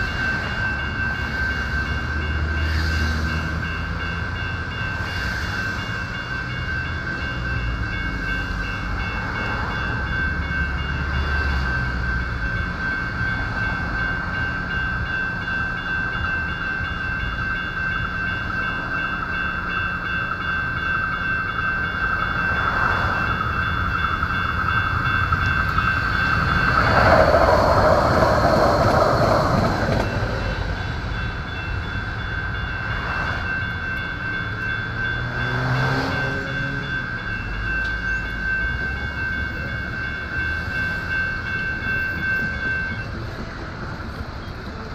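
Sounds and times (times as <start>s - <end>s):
electronic crossing bell ringing: 0.0s - 43.6s.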